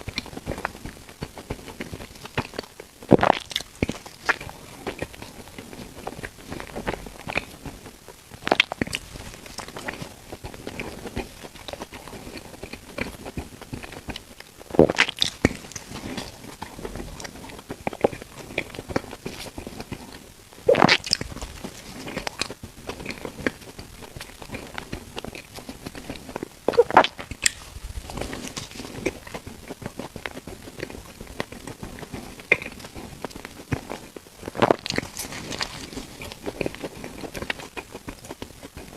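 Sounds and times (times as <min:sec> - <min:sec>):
chewing crackles and mouth clicks: 0:00.0 - 0:38.9
crunchy bread bites: 0:00.0 - 0:38.9.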